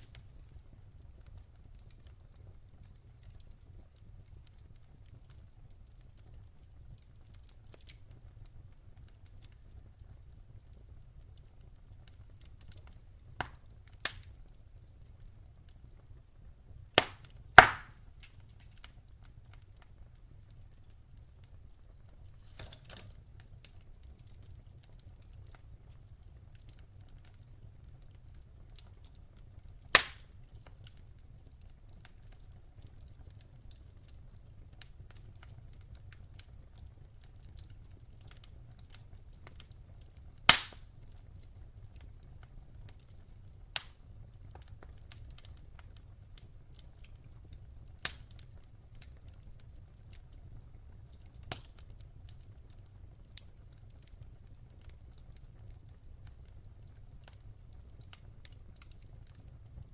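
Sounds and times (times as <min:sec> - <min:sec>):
burning wood popping: 0:00.0 - 0:08.6, 0:10.9 - 0:59.9.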